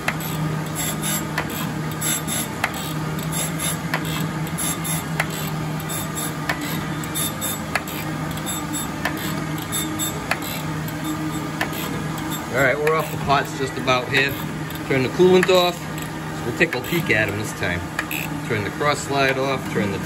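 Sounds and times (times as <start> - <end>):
grinding wheel on steel: 0.0 - 20.0
surface grinder humming: 0.0 - 20.0.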